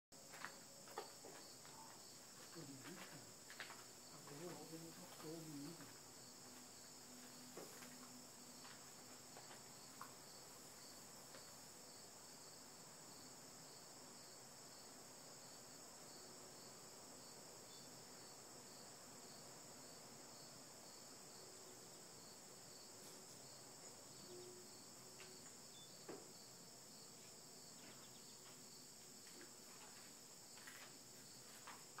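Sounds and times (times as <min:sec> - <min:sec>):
insect chorus trilling: 0:00.3 - 0:32.0.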